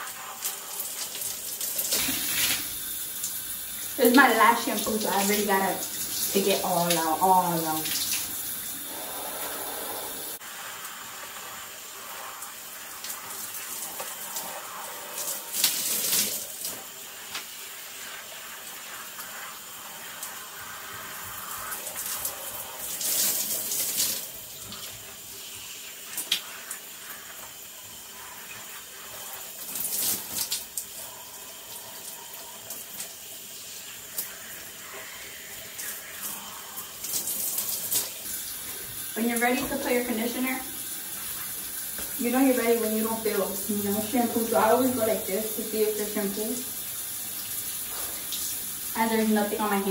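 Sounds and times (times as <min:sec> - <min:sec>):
shower water splashing: 0:00.0 - 0:49.9.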